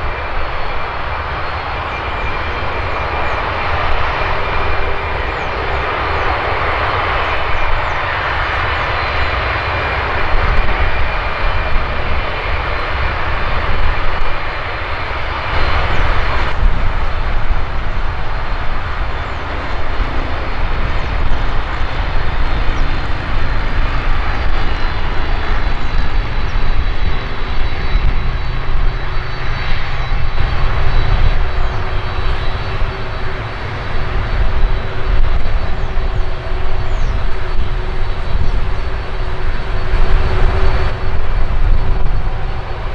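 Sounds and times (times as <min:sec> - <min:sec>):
jet engines roaring: 0:00.0 - 0:42.9.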